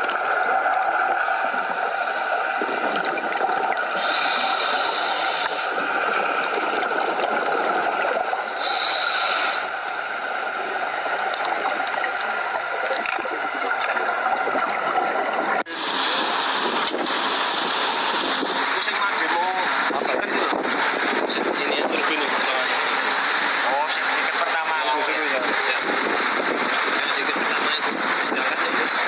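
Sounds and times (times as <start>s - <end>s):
rushing gurgling water: 0.0s - 29.0s.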